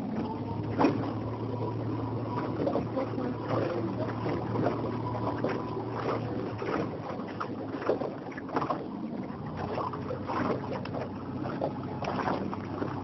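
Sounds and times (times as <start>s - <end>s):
oar splashes and knocks: 0.0s - 13.0s
water washing: 0.0s - 13.0s.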